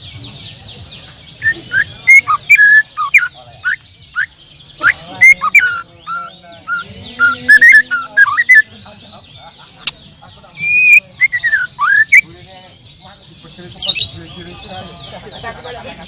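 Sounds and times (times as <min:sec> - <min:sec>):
chorus of bird chirps: 0:00.0 - 0:16.0.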